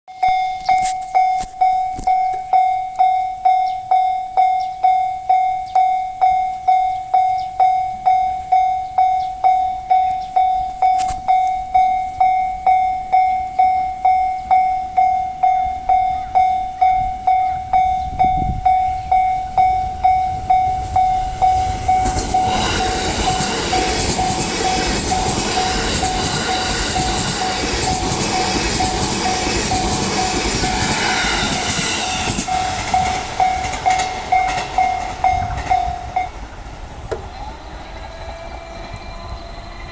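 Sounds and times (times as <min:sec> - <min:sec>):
level-crossing bell ringing: 0:00.1 - 0:36.6
electric train passing: 0:00.2 - 0:39.9.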